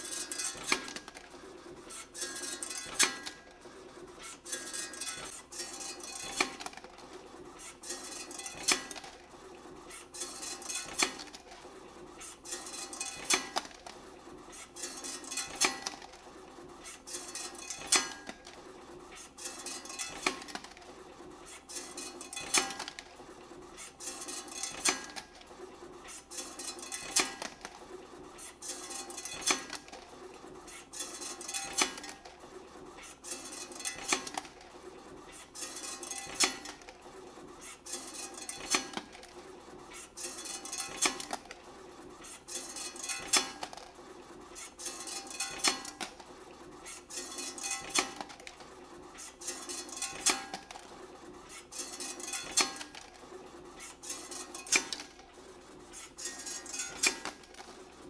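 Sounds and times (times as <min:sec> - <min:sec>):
wire bending machine clatter: 0:00.0 - 0:58.0.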